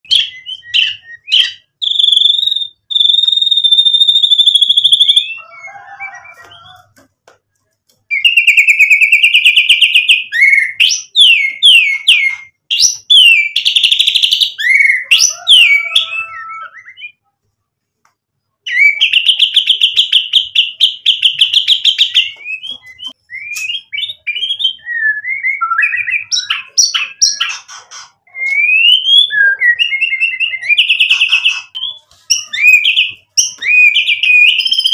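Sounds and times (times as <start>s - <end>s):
bird singing trills and whistles: 0.1s - 6.8s, 8.1s - 17.3s, 18.6s - 34.9s.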